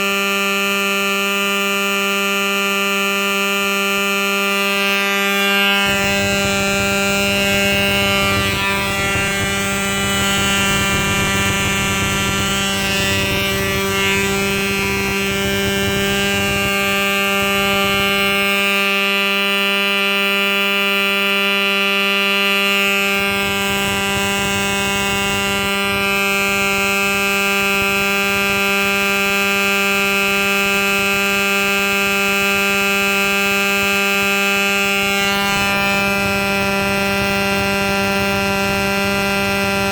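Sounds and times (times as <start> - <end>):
model airplane engine whine: 2.4 - 39.9.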